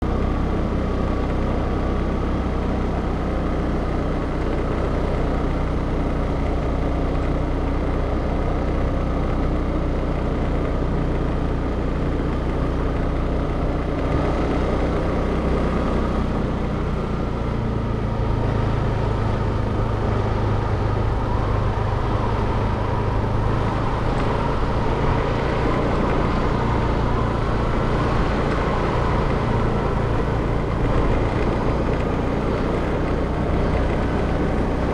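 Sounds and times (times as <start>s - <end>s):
vehicle engine running: 0.0s - 34.9s.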